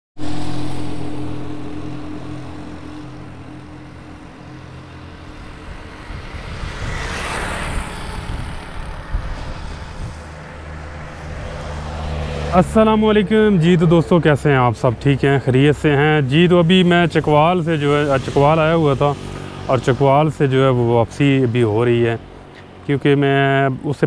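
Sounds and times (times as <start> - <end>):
motorcycle engine droning: 0.2 - 24.0
vehicle passing: 0.2 - 24.0.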